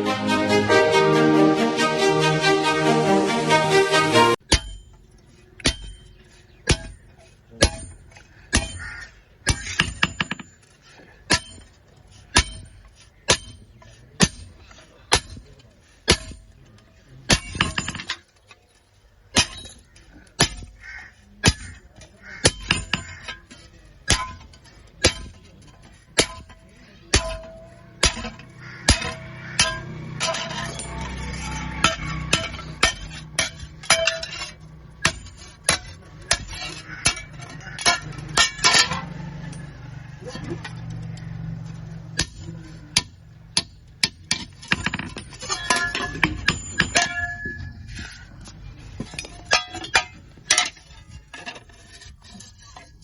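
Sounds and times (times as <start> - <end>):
rough scraping: 0.0 - 53.0.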